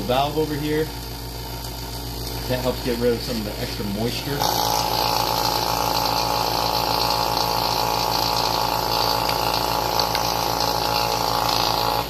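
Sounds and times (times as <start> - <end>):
vacuum pump running: 0.0 - 12.0.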